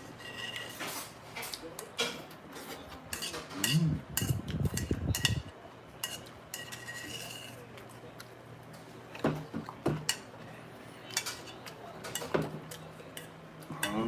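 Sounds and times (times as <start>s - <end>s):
cutlery clinking against dishes: 0.0s - 7.9s, 9.2s - 10.3s, 11.0s - 14.0s.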